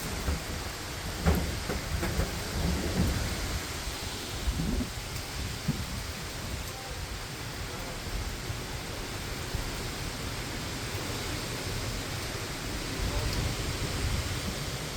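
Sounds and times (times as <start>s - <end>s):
heavy rain: 0.0s - 14.9s
wind gusts on microphone: 0.0s - 14.9s.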